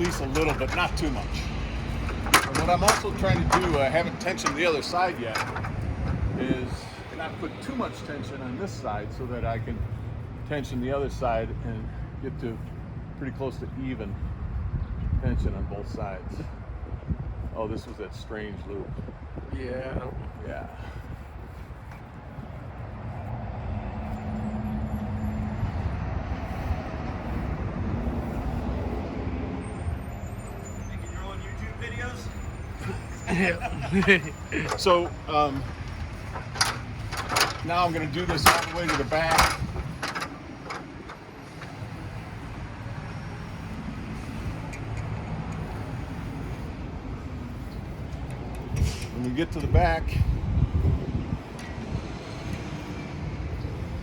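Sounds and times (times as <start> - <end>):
distant road traffic rumble: 0.0 - 54.0.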